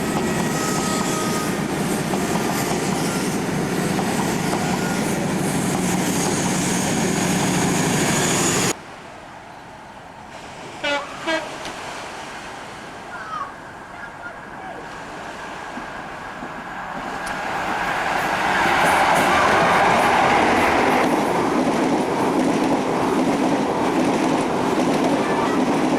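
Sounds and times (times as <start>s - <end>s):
train running noise: 0.0s - 8.8s, 13.7s - 25.9s
approaching train: 0.0s - 25.9s.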